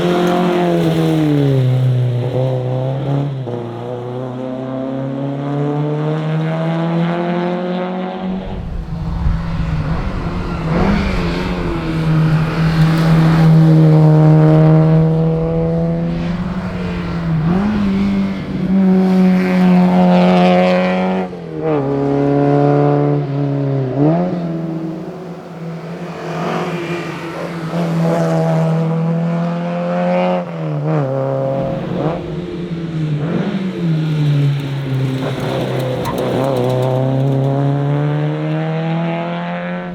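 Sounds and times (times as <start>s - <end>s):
car engine accelerating: 0.0s - 39.9s
low road rumble: 0.0s - 39.9s.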